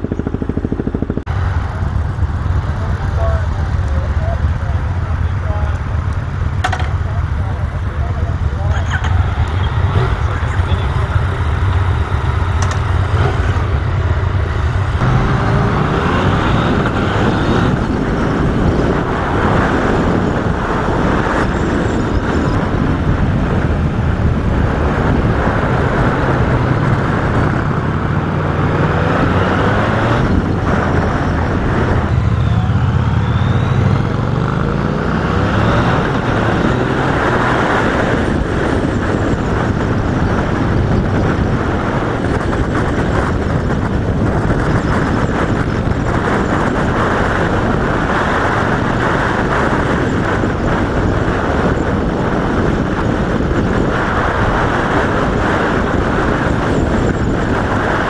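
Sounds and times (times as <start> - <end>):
motorcycle engine: 0.0 - 58.0
wind rushing: 9.2 - 58.0.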